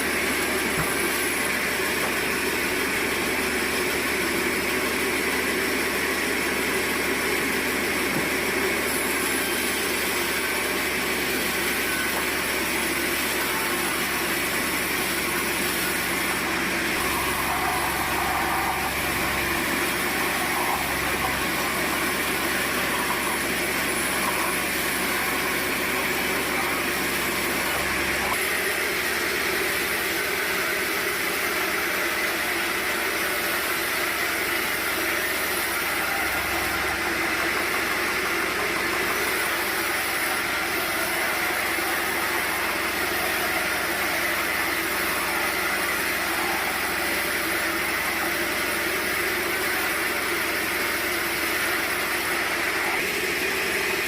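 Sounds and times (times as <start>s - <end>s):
sawmill motor drone: 0.0s - 54.0s.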